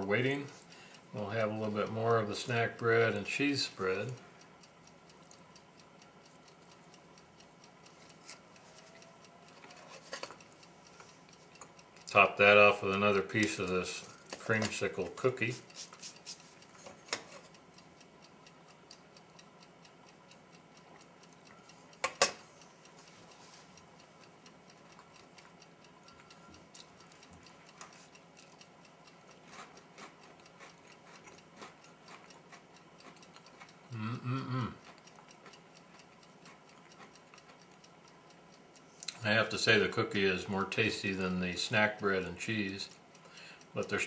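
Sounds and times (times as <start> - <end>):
faint steady ticking: 0.0 - 44.0.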